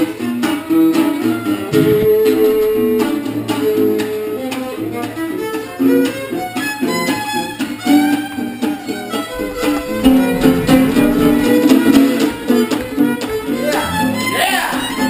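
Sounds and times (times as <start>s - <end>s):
guitar accompaniment: 0.1s - 15.0s.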